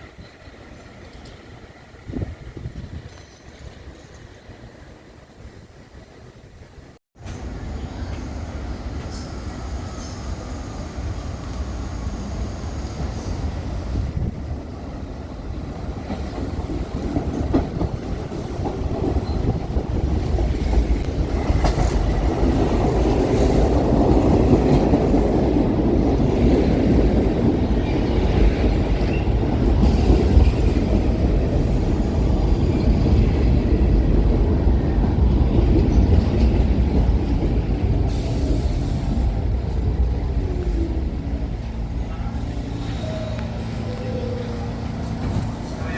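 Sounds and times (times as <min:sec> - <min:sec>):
subway train rumbling past: 0:00.0 - 0:45.9.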